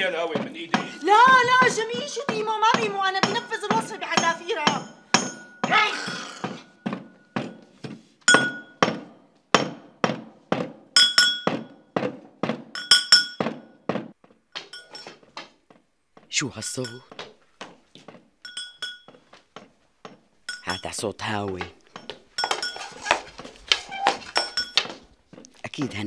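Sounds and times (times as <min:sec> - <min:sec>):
pestle clanging in brass mortar: 0:00.0 - 0:15.3, 0:16.7 - 0:17.3, 0:18.4 - 0:19.2, 0:20.1 - 0:25.0.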